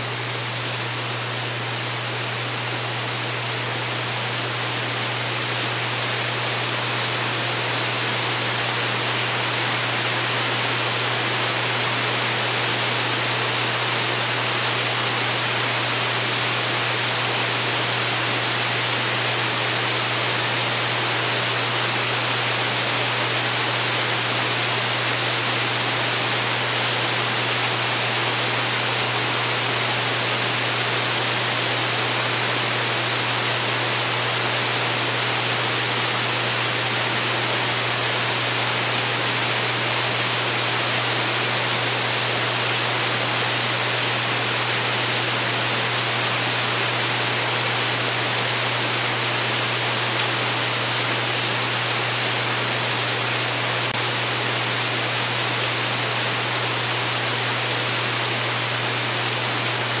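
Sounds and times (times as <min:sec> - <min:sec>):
rain on a roof: 0:00.0 - 1:00.0.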